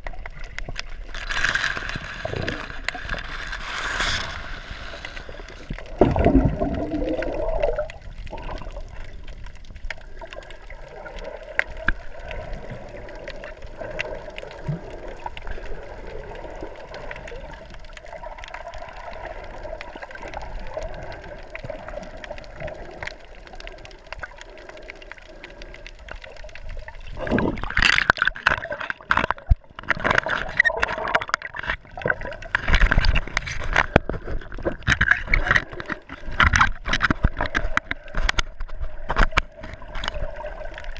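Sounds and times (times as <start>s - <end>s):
small underwater clicks: 0.0s - 40.9s
swimmer splashing and bubbling: 0.0s - 40.9s
underwater water rush: 0.0s - 40.9s.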